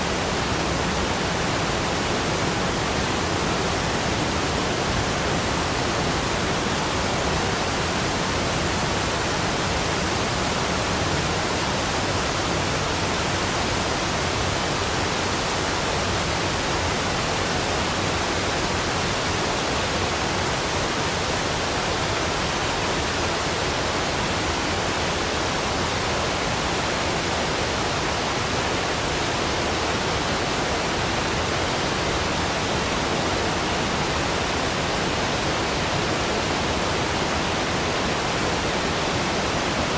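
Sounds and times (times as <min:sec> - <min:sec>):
rushing waterfall: 0:00.0 - 0:39.9.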